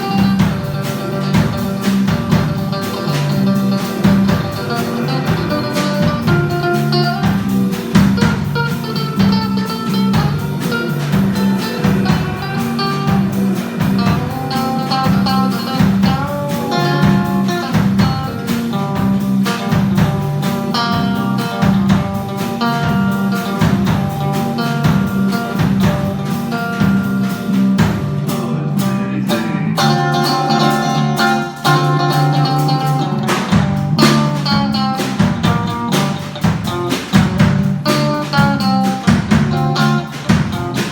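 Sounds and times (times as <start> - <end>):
blues guitar music: 0.0 - 40.9.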